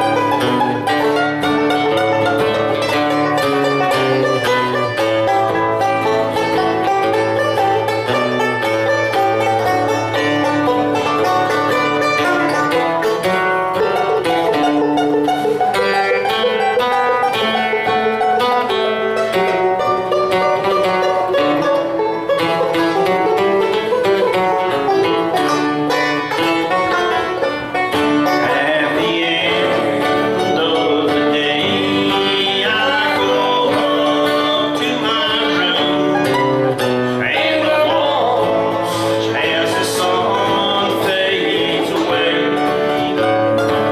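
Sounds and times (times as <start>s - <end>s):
acoustic guitar playing: 0.0s - 43.9s
banjo picking: 0.0s - 43.9s.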